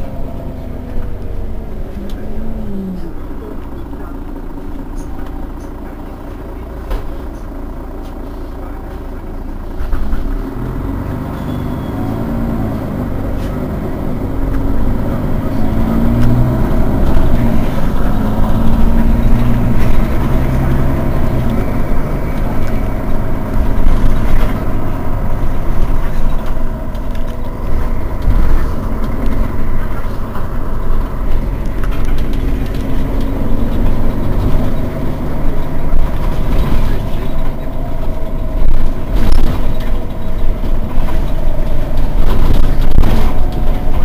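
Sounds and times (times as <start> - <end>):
bus engine idling: 0.0 - 44.0.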